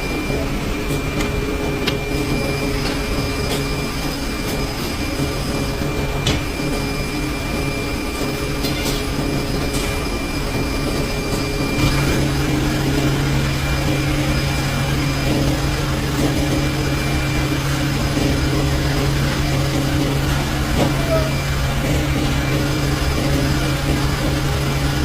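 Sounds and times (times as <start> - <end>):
machine humming and whirring: 0.0 - 25.0.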